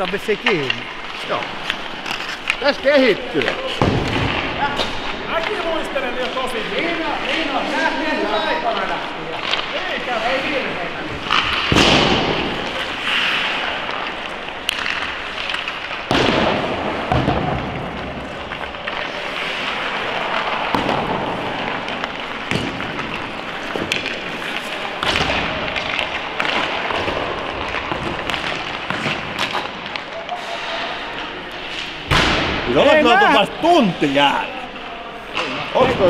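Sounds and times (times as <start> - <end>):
skates scraping on ice: 0.0 - 31.9
pucks hitting the boards: 0.0 - 34.3, 35.3 - 36.0
pucks and sticks cracking: 0.0 - 36.0.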